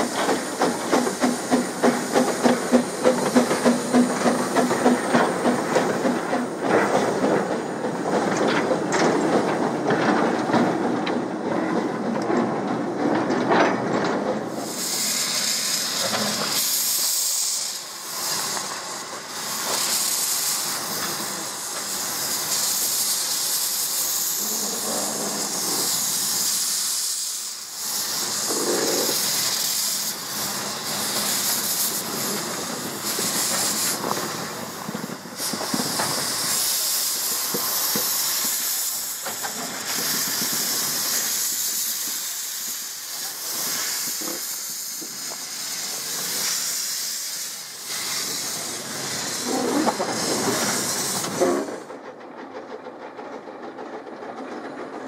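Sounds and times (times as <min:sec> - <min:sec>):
steam hissing: 0:00.0 - 0:55.0.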